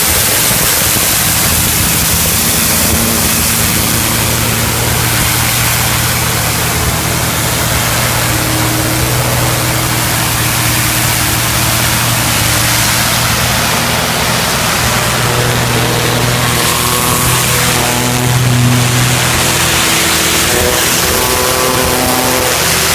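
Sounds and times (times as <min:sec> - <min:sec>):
engine and pump humming: 0:00.0 - 0:22.9
high steady tones: 0:00.0 - 0:22.9
high-pressure spray hissing: 0:00.0 - 0:22.9.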